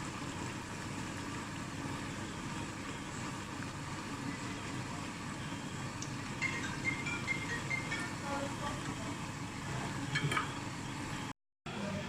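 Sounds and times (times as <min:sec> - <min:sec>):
food sizzling in hot oil: 0:00.0 - 0:11.2.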